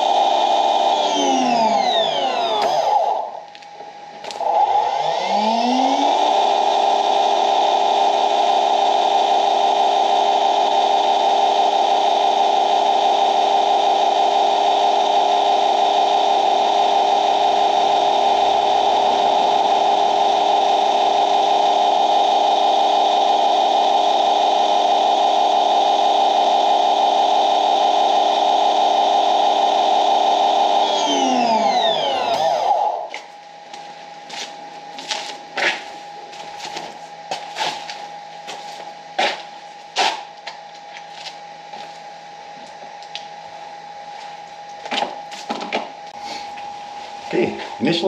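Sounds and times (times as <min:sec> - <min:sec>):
pressure washer motor whining: 0:00.0 - 0:41.9.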